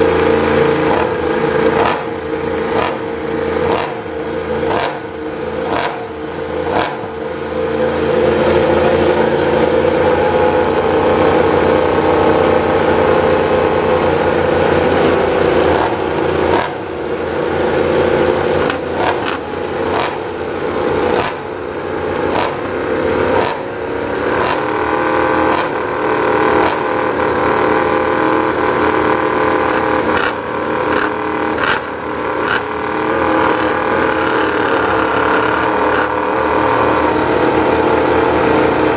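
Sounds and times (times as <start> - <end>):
race bike engine revving: 0.0 - 38.9.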